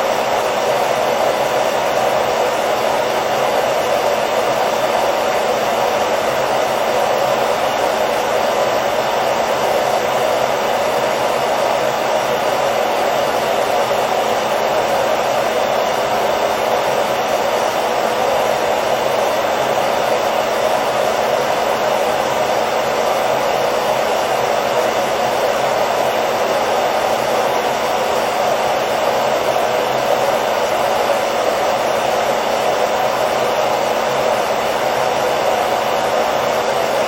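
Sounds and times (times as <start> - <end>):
hair dryer running: 0.0 - 37.0.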